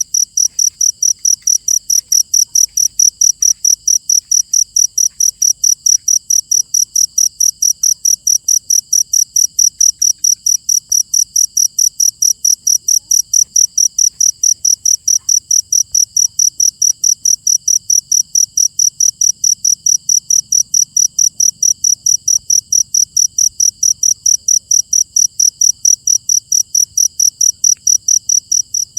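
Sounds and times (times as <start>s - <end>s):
cricket chirping: 0.0s - 28.9s.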